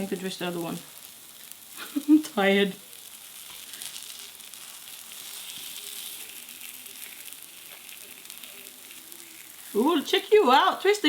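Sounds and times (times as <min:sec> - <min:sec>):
batter sizzling in hot pan: 0:00.0 - 0:11.0.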